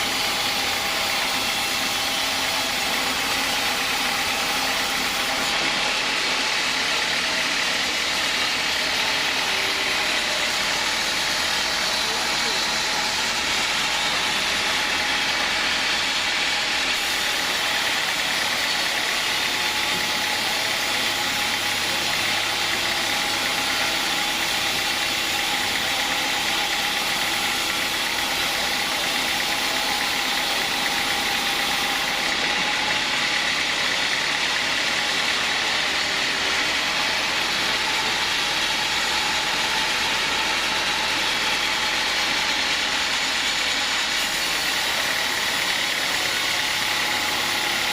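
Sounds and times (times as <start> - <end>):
sawmill engine and saw noise: 0.0 - 47.9.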